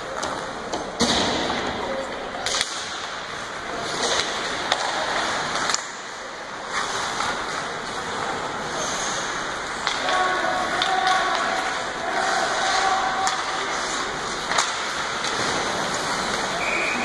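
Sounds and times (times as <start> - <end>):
hockey sticks and puck clacking: 0.0 - 17.0
skate blades scraping ice: 2.6 - 17.0.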